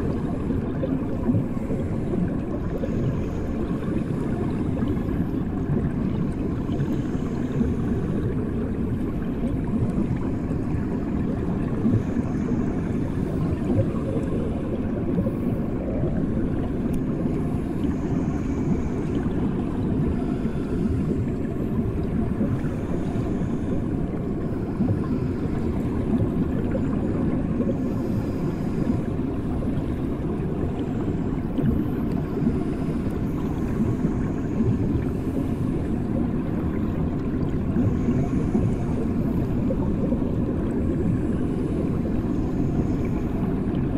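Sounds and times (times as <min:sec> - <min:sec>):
muffled underwater rumble: 0:00.0 - 0:43.9.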